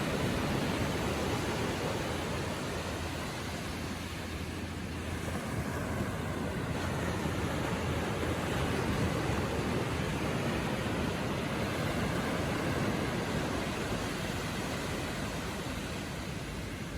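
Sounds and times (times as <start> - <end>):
ocean waves lapping on shore: 0.0 - 16.9.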